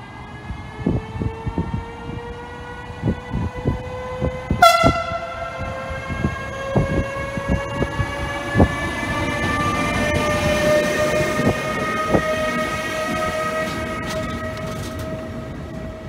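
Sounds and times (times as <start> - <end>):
electric locomotive traction whine: 0.0 - 16.0
rumble of rolling train: 0.0 - 16.0.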